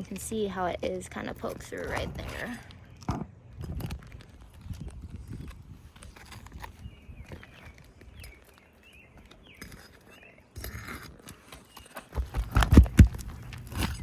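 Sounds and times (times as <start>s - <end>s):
pry bar scraping: 1.2s - 14.0s.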